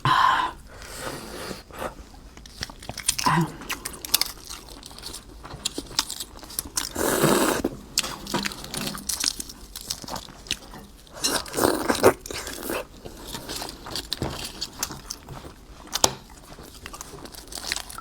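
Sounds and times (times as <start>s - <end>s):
wet chewing and crunching: 1.7s - 18.0s.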